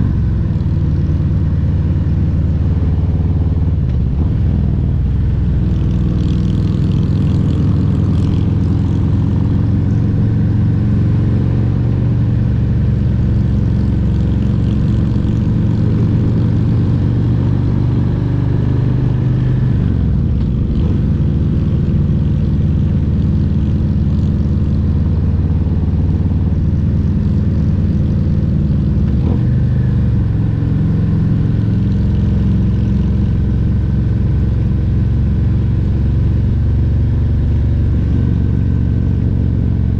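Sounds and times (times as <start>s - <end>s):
motorcycle engine running on road: 0.0s - 39.9s.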